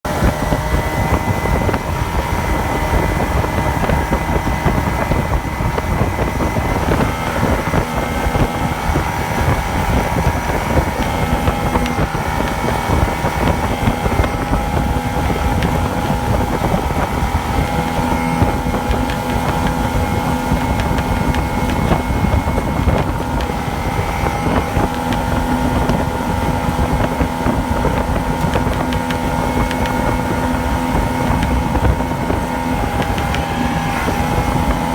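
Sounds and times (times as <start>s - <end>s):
two-stroke engine running: 0.0s - 34.9s.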